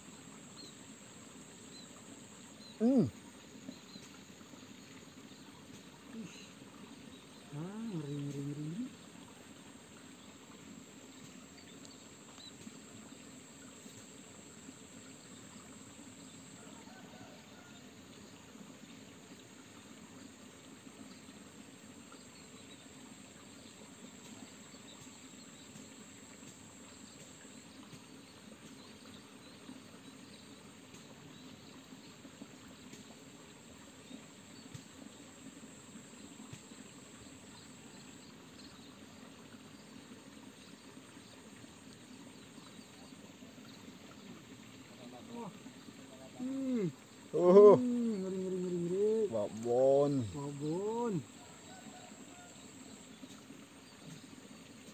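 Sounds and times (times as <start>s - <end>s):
high insect drone: 0.0s - 54.9s
small stream trickling: 0.0s - 54.9s.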